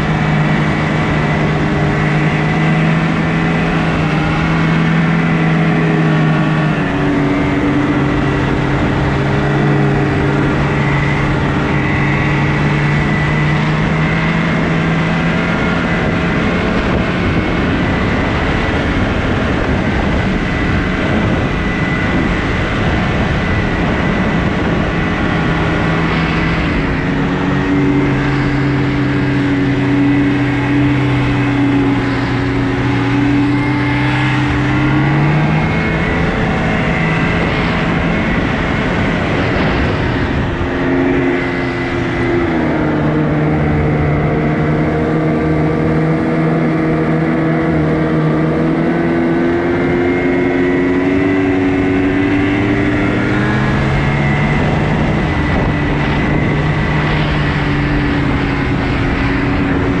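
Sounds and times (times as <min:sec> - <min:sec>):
rushing over snow: 0:00.0 - 1:00.0
snowmobile engine running: 0:00.0 - 1:00.0.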